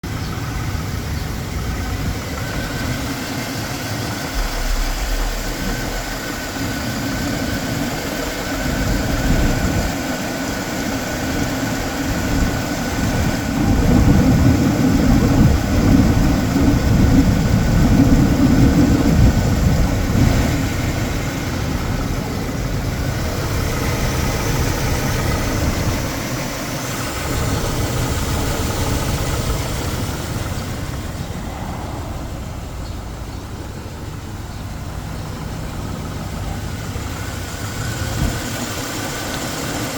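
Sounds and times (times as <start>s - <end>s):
engine idling with knock: 0.0s - 39.9s.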